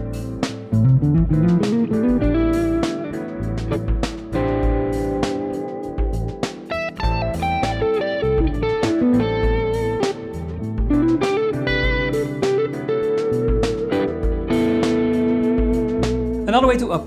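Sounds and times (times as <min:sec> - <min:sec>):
electric guitar arpeggios: 0:00.0 - 0:16.5.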